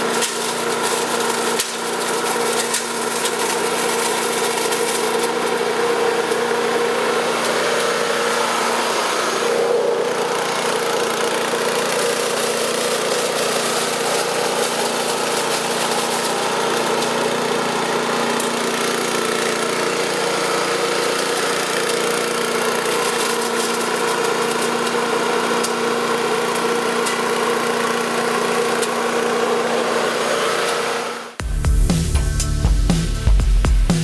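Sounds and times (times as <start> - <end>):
leaf vacuum engine running: 0.0 - 34.0.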